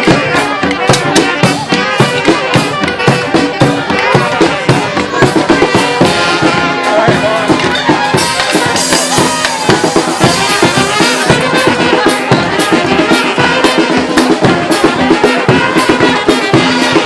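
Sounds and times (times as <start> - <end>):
brass horns playing: 0.0 - 17.0
fast drum beat: 0.0 - 17.0.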